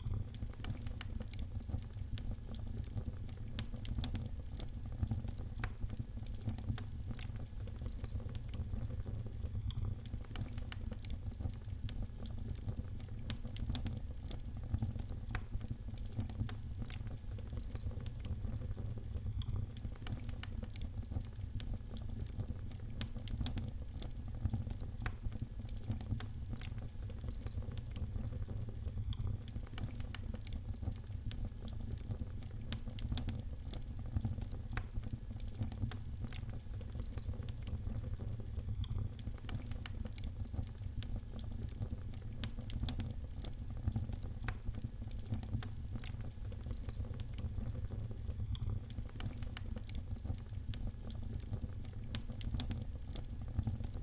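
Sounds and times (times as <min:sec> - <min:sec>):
low fire rumble: 0:00.0 - 0:54.0
wood fire crackling: 0:00.0 - 0:54.0.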